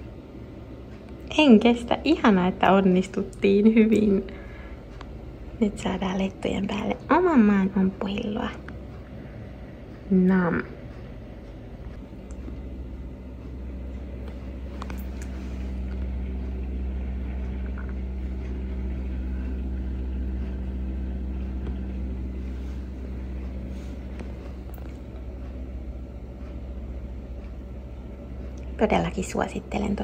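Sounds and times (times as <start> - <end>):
low rumbling hum: 0.0 - 30.0.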